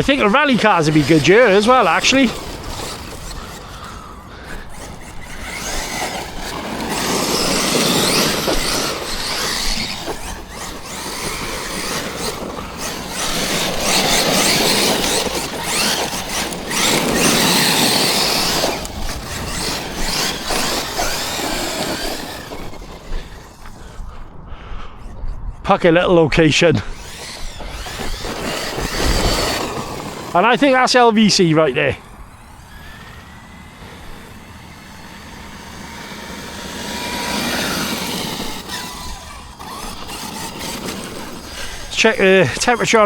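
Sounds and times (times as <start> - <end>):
electric toy truck motor whining: 0.0 - 25.2, 26.5 - 43.0.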